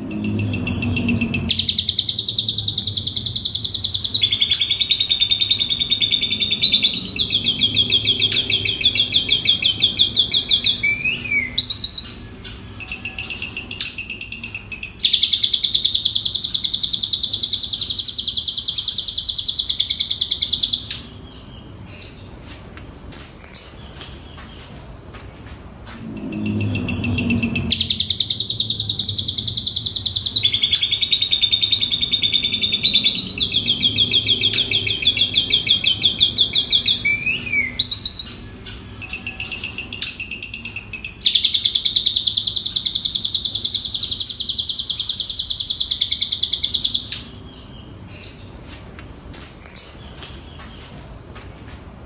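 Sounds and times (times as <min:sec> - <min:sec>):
starling singing rapid high notes: 0:00.0 - 0:21.2, 0:26.0 - 0:47.4.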